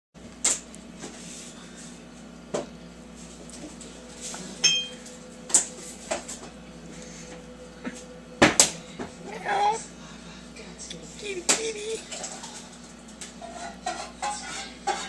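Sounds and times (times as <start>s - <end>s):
steady low hum: 0.2s - 15.0s.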